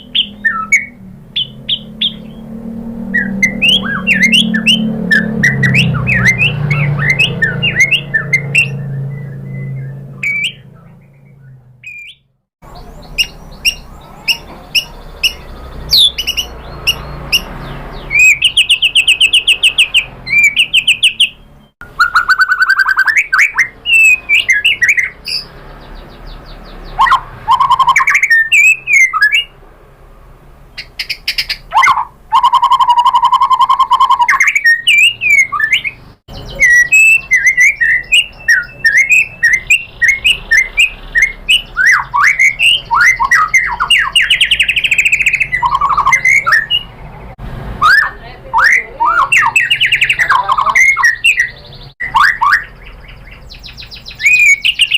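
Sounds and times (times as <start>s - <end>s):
bird singing whistles and trills: 0.0s - 29.5s, 30.7s - 47.0s, 47.8s - 54.9s.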